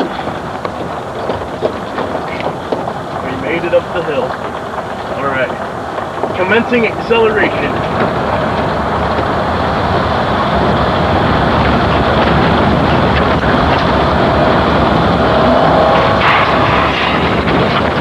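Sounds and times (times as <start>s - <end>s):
pickup truck accelerating: 0.0s - 18.0s.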